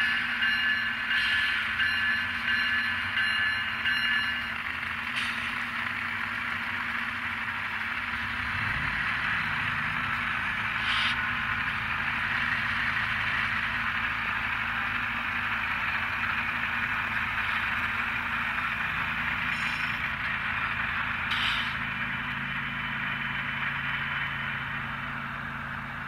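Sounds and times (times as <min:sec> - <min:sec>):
diesel engine sound: 0:00.0 - 0:26.0.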